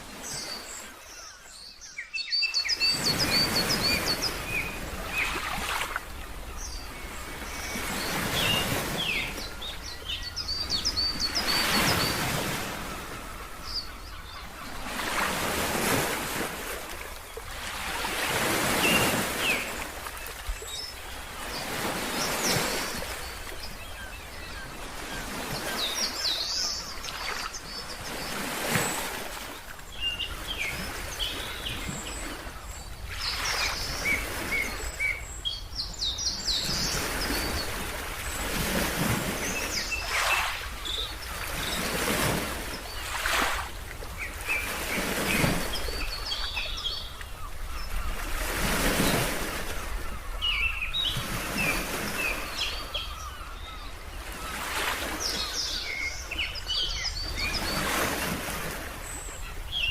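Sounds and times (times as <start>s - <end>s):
birds chirping: 0.1s - 16.6s, 17.2s - 59.9s
ocean waves breaking: 2.8s - 35.4s, 36.0s - 59.9s.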